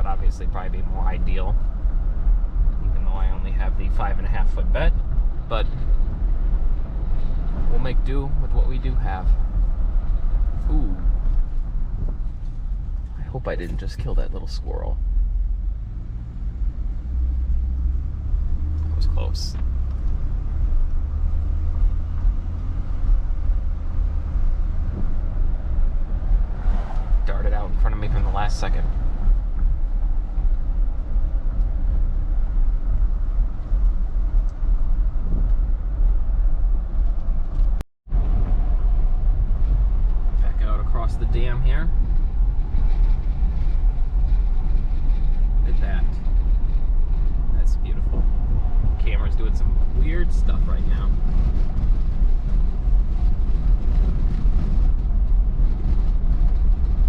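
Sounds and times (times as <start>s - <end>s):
road and engine rumble in cab: 0.0s - 57.0s.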